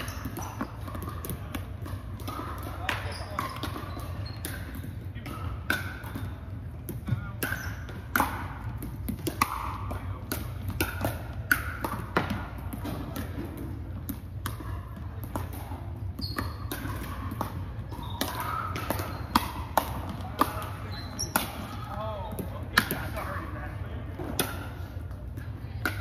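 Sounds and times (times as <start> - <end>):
ball bouncing on hardwood court: 0.0 - 26.0
paddles striking ball: 0.1 - 23.5.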